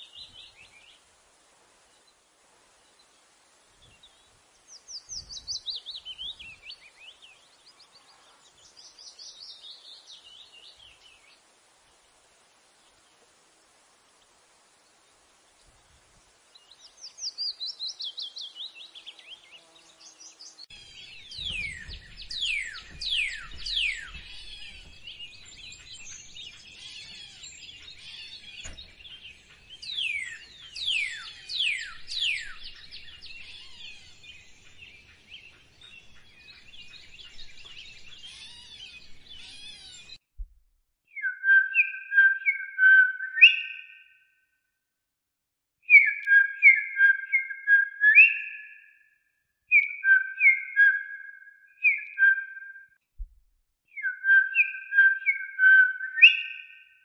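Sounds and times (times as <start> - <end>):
songbirds singing: 0.0 - 40.2, 41.1 - 44.4, 45.8 - 53.0, 53.9 - 57.0.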